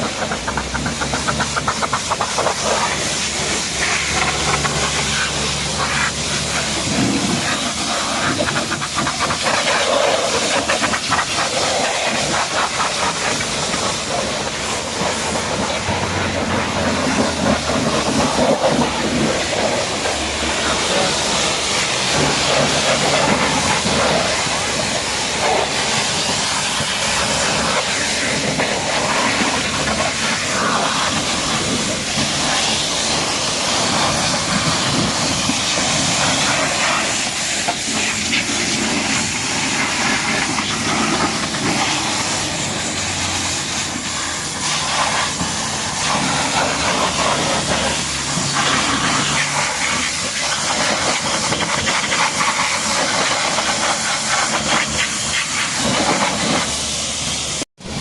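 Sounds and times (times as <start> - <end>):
pressure washer spraying water: 0.0 - 58.0.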